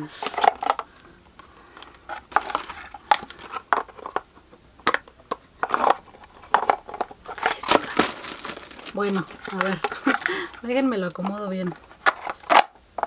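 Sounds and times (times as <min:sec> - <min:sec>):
plastic parts clacking: 0:00.1 - 0:00.9, 0:01.8 - 0:13.0.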